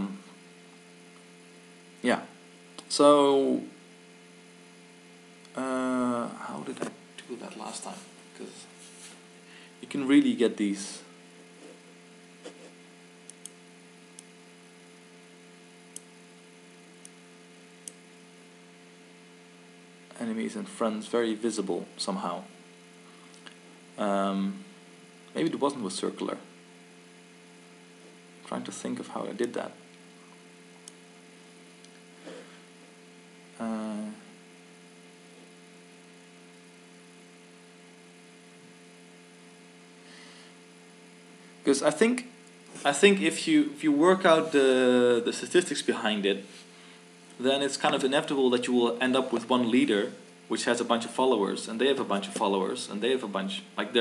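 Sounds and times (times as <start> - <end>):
steady electrical hum: 0.0 - 54.0.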